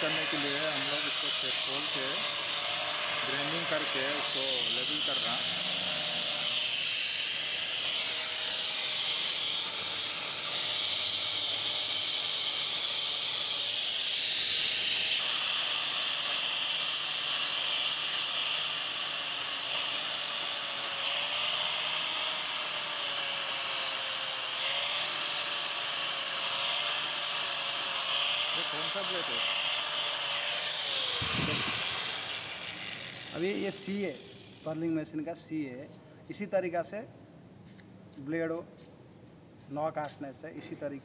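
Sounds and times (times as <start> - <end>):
angle grinder whining: 0.0 - 35.0
grinding hiss: 0.0 - 35.0.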